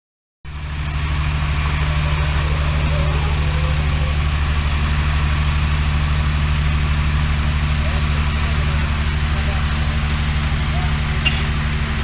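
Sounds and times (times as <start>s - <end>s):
diesel engine idling: 0.5s - 12.0s.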